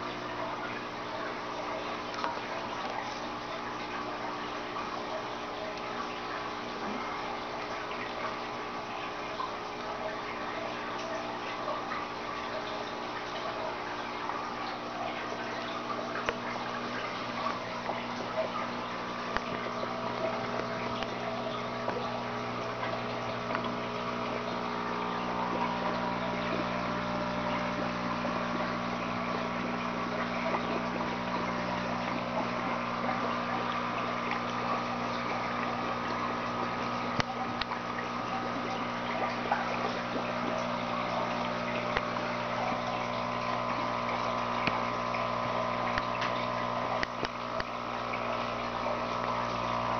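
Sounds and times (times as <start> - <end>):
water pump humming: 0.0 - 49.9
water trickling and splashing: 0.0 - 49.9.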